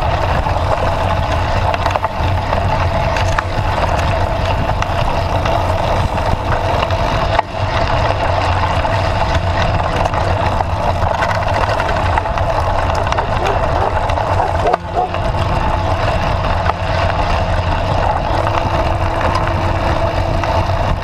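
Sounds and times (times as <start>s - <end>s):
bicycle rolling on dirt path: 0.0s - 21.0s
wind: 0.0s - 21.0s.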